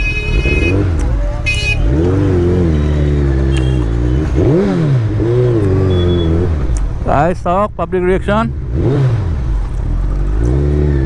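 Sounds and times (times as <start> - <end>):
motorcycle engine revving: 0.0 - 7.0, 8.5 - 11.0.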